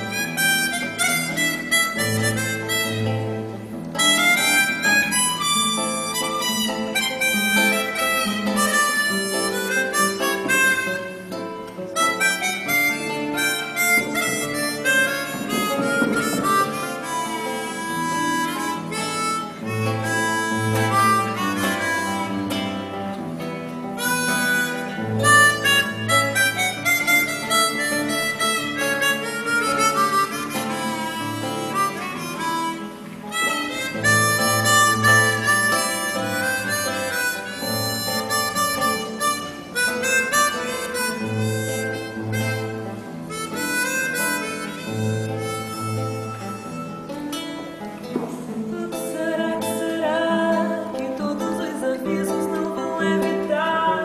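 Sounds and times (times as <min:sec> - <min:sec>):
classical guitar accompaniment: 0:00.0 - 0:54.0
harmonica melody: 0:00.0 - 0:54.0.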